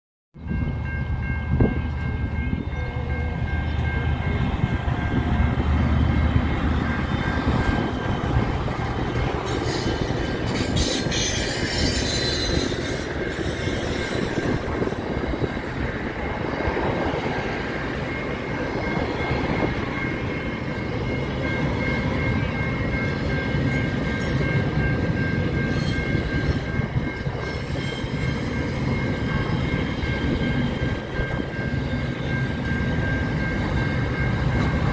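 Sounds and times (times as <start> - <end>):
freight train rumbling past: 0.4 - 34.9.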